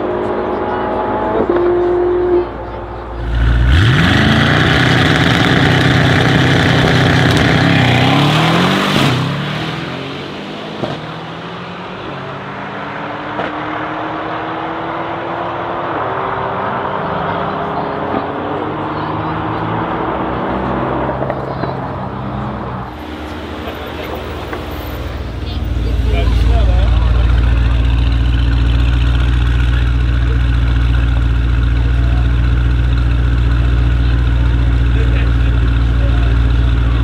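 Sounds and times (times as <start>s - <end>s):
car engines revving and accelerating: 0.0s - 37.0s.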